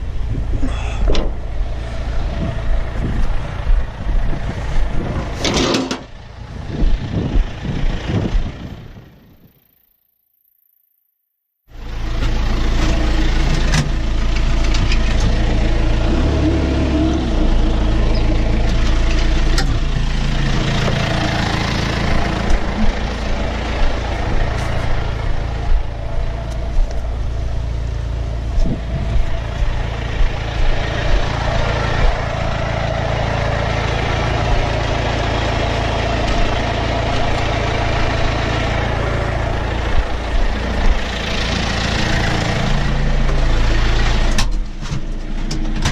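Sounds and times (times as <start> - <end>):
tractor diesel engine running: 0.0 - 9.8, 11.7 - 45.9.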